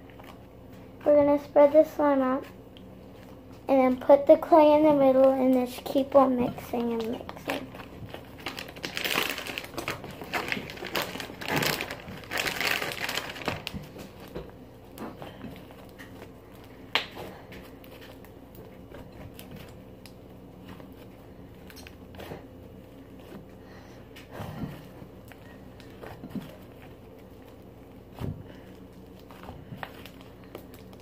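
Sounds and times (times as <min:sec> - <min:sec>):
hands squishing slime: 0:02.7 - 0:31.0.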